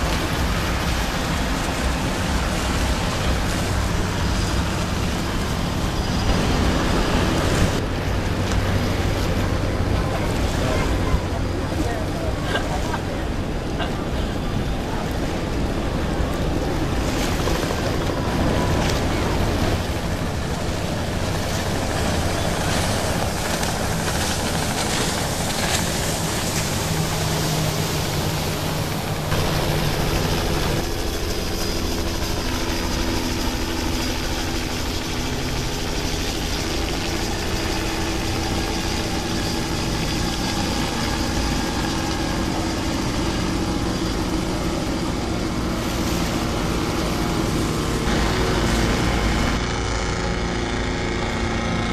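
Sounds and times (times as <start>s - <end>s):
boat engine running: 0.0s - 51.9s
rushing water: 0.0s - 51.9s
wind: 0.0s - 51.9s.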